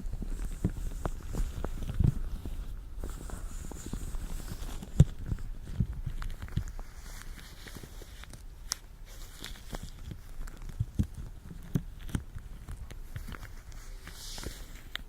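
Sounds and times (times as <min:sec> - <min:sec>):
latex gloves crackling: 0:00.0 - 0:15.0.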